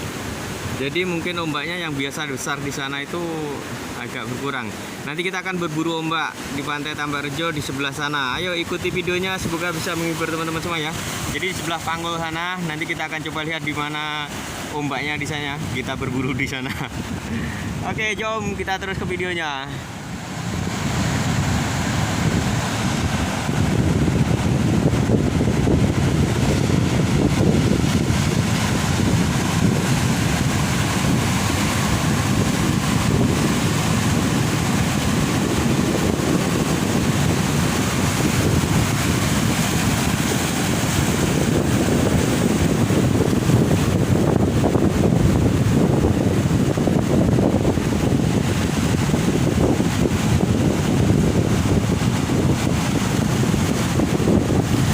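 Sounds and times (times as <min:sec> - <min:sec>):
roar of heavy surf: 0:00.0 - 0:54.9
wind buffeting microphone: 0:08.3 - 0:11.9, 0:14.3 - 0:54.9.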